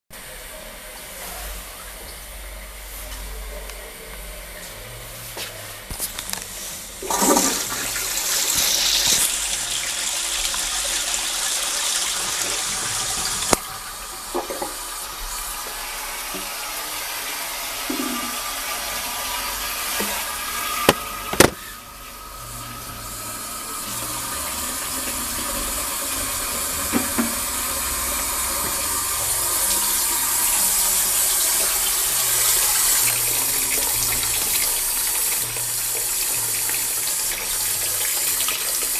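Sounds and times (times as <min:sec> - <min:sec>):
toilet flushing: 0:05.8 - 0:38.9
water running: 0:05.9 - 0:38.9.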